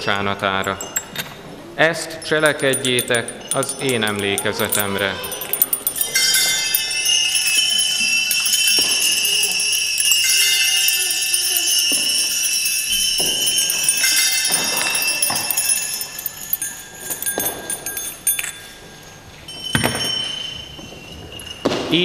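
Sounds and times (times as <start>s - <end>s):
small handbells jangling: 0.0s - 21.7s.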